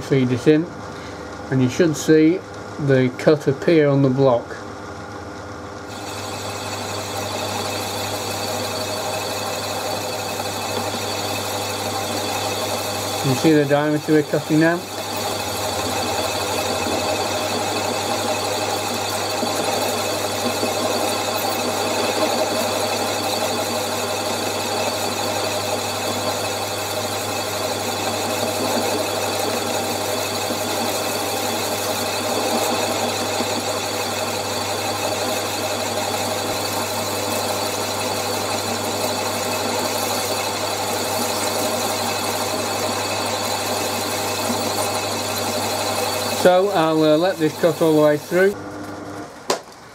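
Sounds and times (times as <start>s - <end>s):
lathe running: 5.7s - 49.2s
boring bar cutting steel: 5.9s - 48.6s.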